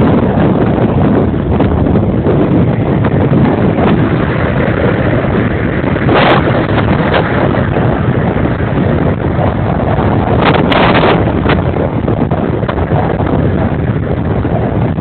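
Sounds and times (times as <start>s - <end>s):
vehicle drone: 0.0s - 15.0s
wind buffeting microphone: 0.0s - 15.0s.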